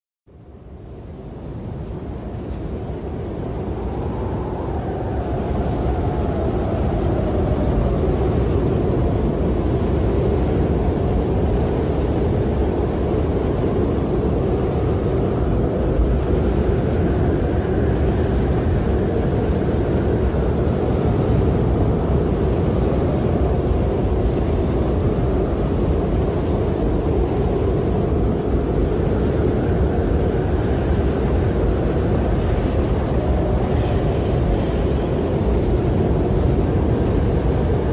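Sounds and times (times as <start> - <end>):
wind blowing hard and whistling: 0.3 - 37.9.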